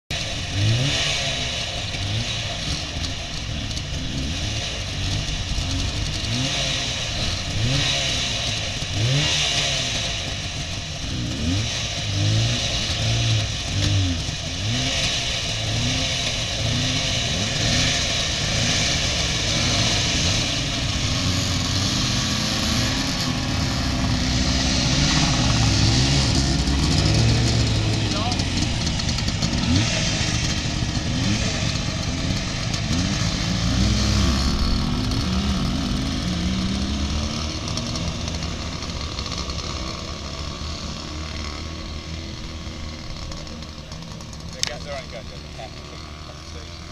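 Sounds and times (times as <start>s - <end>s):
small car engine revving: 0.1s - 46.9s.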